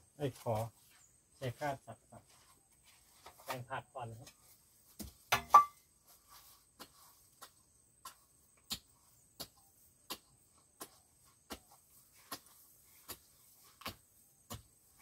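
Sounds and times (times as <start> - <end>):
hand rake chopping soil: 3.0 - 15.0.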